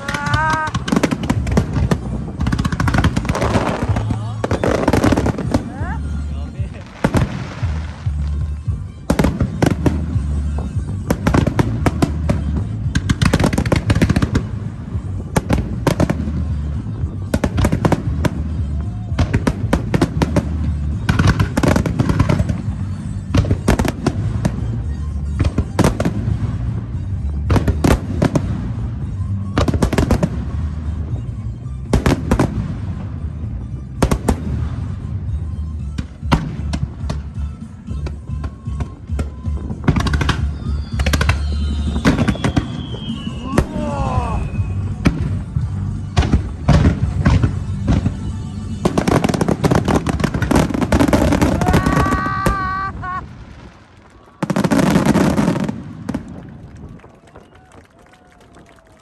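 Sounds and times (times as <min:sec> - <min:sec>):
music: 0:00.0 - 0:59.0.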